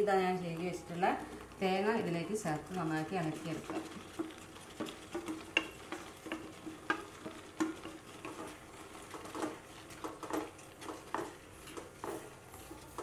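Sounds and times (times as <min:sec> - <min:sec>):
wooden spatula scraping a pan: 0:00.0 - 0:13.0.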